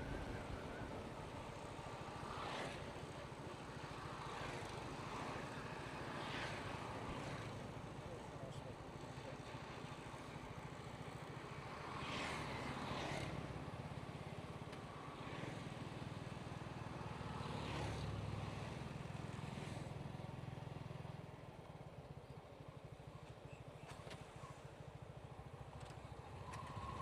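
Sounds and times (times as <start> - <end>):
road and wind noise: 0.0 - 27.0.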